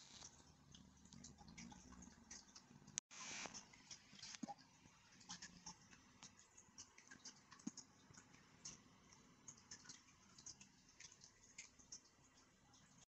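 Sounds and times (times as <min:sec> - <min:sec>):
faint light clicks and ticks: 0:00.2 - 0:13.0.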